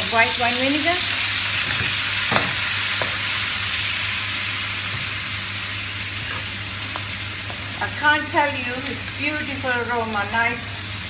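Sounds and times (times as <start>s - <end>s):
meatballs sizzling in a pan: 0.0s - 11.0s.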